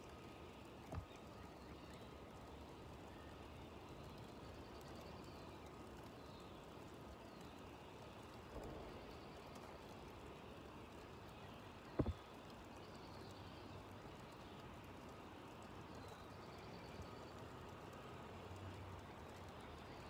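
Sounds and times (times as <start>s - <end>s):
faint distant birdsong: 0.0s - 20.0s.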